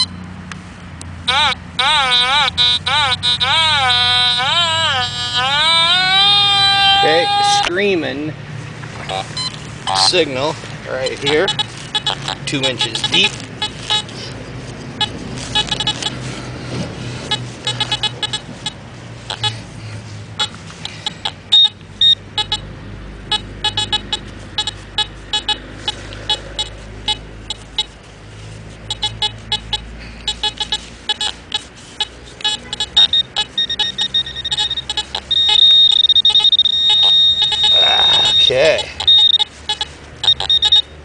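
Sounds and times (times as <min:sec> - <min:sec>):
metal detector beeping: 0:00.0 - 0:00.3, 0:01.2 - 0:08.2, 0:09.0 - 0:14.4, 0:15.0 - 0:16.5, 0:17.2 - 0:19.6, 0:20.4 - 0:22.7, 0:23.3 - 0:28.0, 0:28.8 - 0:41.0.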